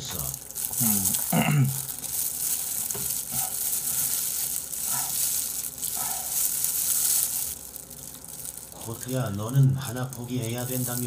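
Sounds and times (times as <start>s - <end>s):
plastic gloves crinkling: 0.0s - 11.0s.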